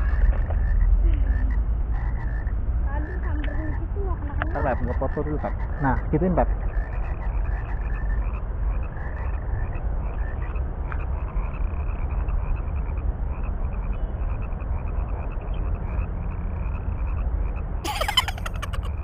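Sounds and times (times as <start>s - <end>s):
frogs calling in chorus: 0.0s - 19.0s
steady low rumble: 0.0s - 19.0s.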